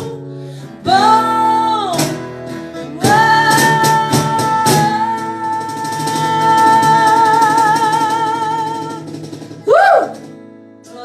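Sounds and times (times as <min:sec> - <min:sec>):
acoustic guitar strums: 0:00.0 - 0:11.0.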